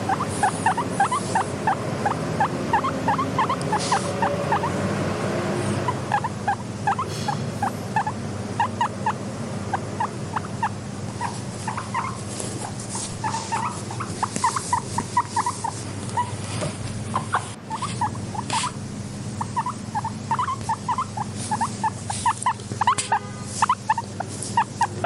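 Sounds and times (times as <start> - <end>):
guinea pig squeaking: 0.0 - 4.8, 5.7 - 25.0
steady low hum: 0.0 - 25.0.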